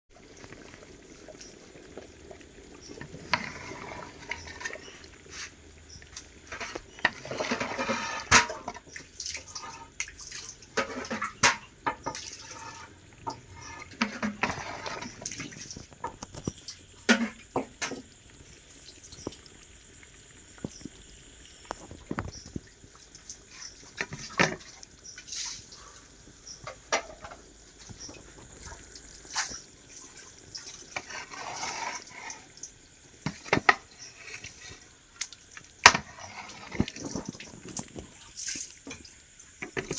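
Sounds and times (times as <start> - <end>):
liquid splashing and pouring: 0.1 - 25.9, 28.1 - 39.9.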